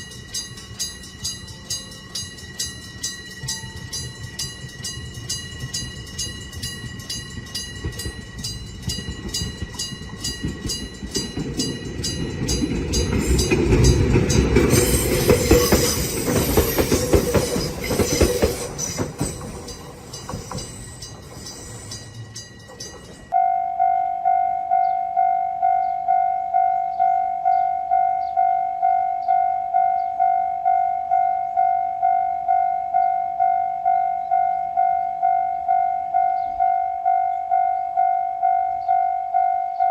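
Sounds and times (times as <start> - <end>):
electronic crossing alarm ringing: 0.0 - 39.9
railroad crossing bell clanging: 0.0 - 39.9
train passing: 0.0 - 39.9.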